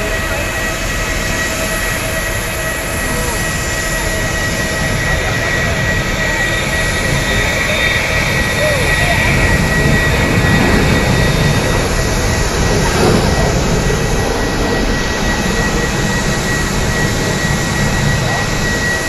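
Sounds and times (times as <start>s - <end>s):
jet engine rush and whine: 0.0s - 19.0s.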